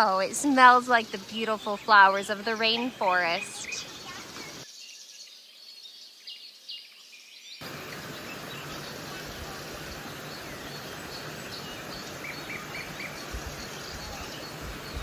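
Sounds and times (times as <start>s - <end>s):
birds chirping: 0.0s - 15.0s
steady outdoor hiss: 0.0s - 15.0s.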